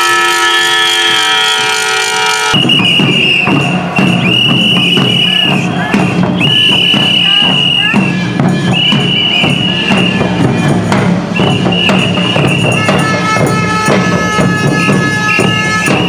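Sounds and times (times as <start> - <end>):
rattling tambourine-like percussion: 2.7 - 16.0.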